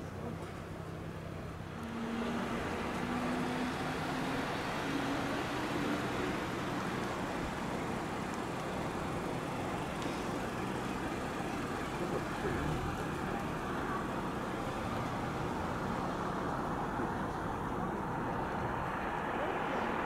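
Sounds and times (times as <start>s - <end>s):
light aircraft engine running: 0.0s - 20.0s.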